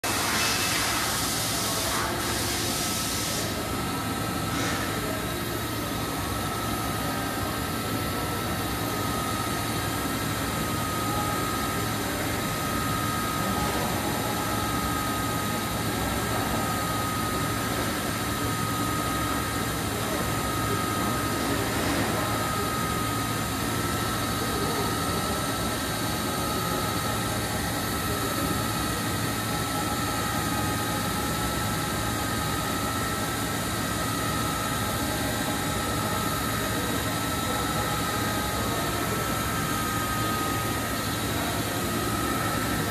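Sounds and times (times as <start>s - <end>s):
machine hum with high whine: 0.0s - 42.9s.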